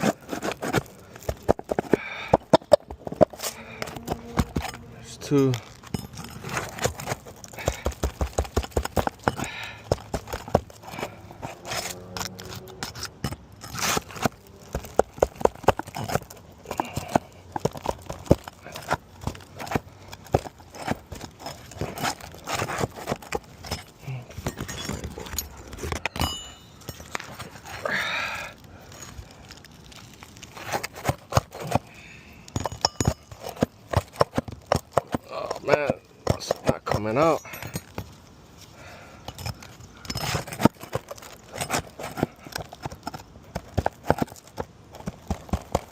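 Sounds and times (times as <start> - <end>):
tool prying at shingles: 0.0 - 28.2, 29.1 - 38.2, 38.8 - 45.9
shingles scraping and crackling: 0.0 - 45.9.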